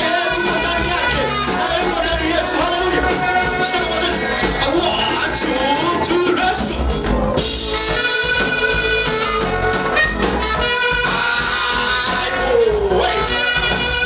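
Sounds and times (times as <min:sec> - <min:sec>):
drum kit: 0:00.0 - 0:14.0
long held instrumental notes: 0:00.0 - 0:14.0.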